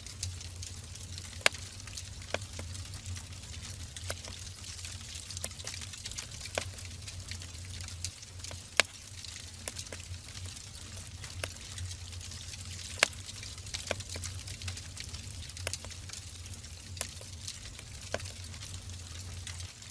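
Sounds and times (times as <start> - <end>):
fire crackles and pops: 0.0 - 19.9
wood fire hissing: 0.0 - 19.9.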